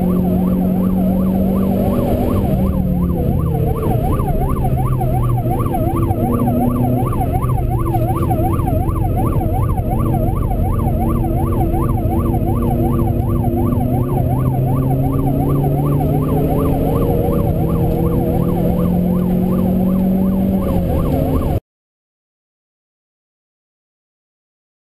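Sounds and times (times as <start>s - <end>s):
car engine running: 0.0s - 21.6s
yelp siren: 0.0s - 21.6s.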